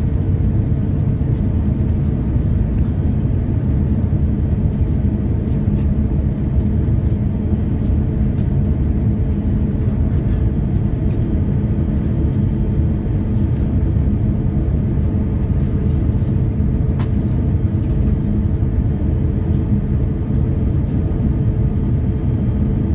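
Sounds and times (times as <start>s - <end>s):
jet engines rumbling: 0.0s - 22.9s.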